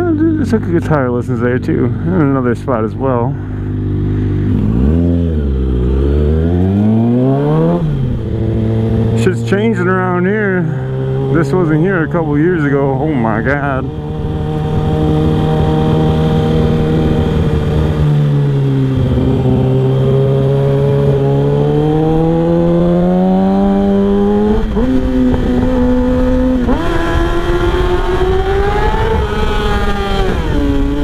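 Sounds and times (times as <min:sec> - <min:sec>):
motorcycle engine revving: 0:02.0 - 0:31.0.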